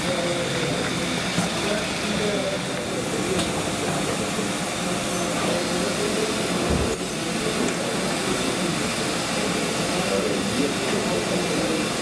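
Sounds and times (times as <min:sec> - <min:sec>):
factory machinery rushing noise: 0:00.0 - 0:12.0.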